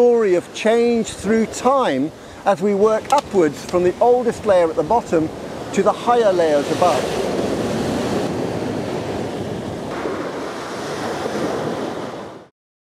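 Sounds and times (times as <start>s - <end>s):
sea surf: 0.0s - 12.5s
wind blowing across microphone: 0.0s - 12.5s.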